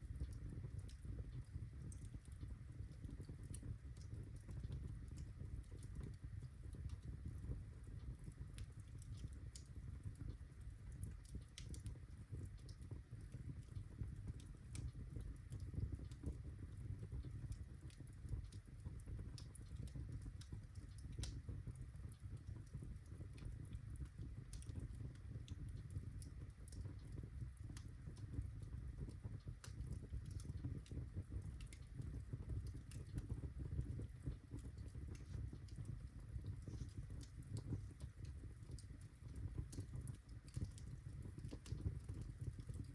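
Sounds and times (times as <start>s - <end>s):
fire crackles and pops: 0.0s - 42.9s
low rumble of flame: 0.0s - 42.9s.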